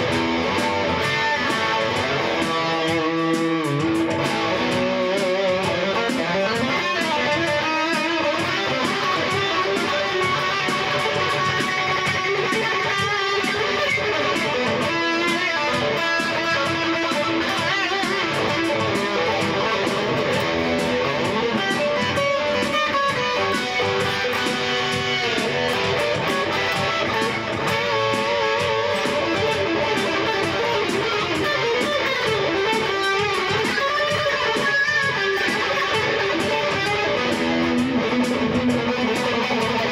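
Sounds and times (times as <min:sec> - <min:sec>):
electric guitar playing: 0:00.0 - 0:39.9
steady drum beat: 0:00.0 - 0:39.9.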